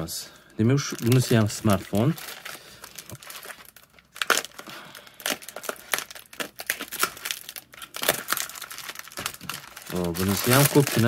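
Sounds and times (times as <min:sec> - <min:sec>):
plastic wrapping crinkling: 0:00.5 - 0:11.0.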